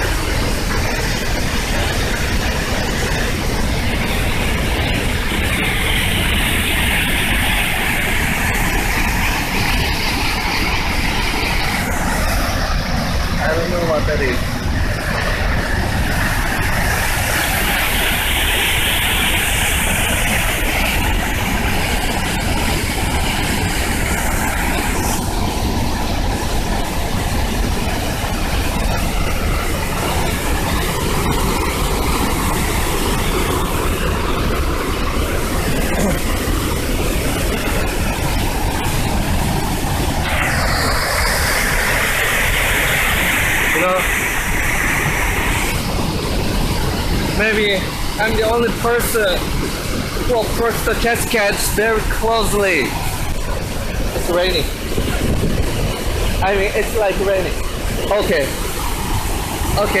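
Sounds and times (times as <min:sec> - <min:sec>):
waterfall roaring: 0:00.0 - 1:00.0.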